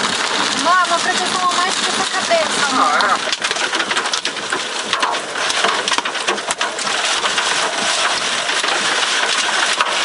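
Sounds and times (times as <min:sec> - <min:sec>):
heavy rain on car roof: 0:00.0 - 0:10.0
sharp taps of hailstones: 0:00.0 - 0:10.0.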